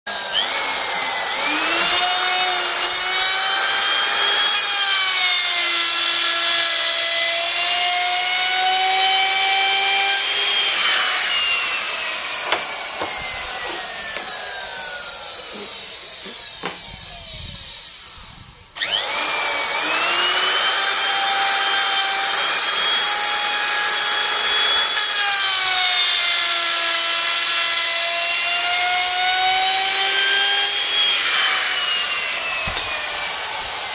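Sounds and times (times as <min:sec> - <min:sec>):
power tool cutting wood: 0:00.1 - 0:33.9.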